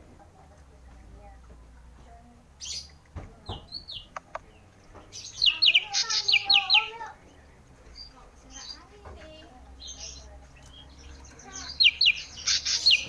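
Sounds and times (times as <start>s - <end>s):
songbird singing: 0.0s - 13.0s
lower wavering bird calls: 0.8s - 13.0s.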